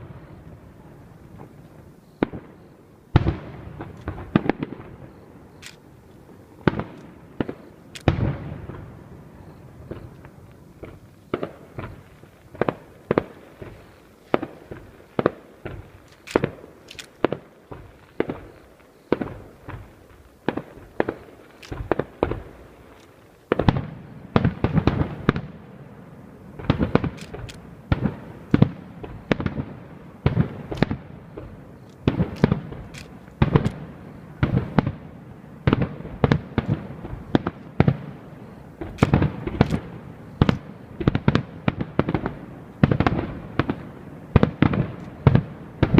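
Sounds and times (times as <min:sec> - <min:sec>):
fireworks bursting: 0:00.0 - 0:45.9
fireworks crackle: 0:00.0 - 0:45.9.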